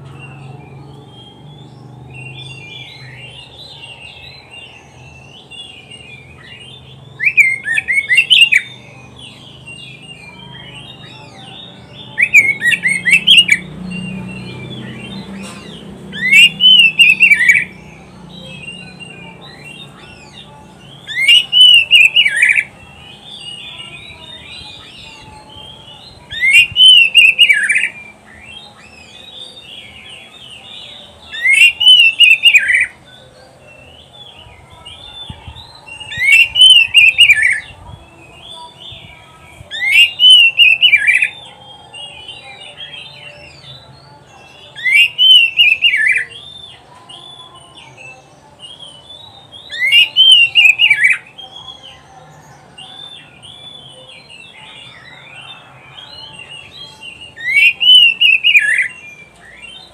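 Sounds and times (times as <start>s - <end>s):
bird twittering: 0.0s - 33.1s, 33.8s - 47.9s, 48.7s - 51.9s, 52.7s - 59.9s
bird whistling song: 0.0s - 59.9s.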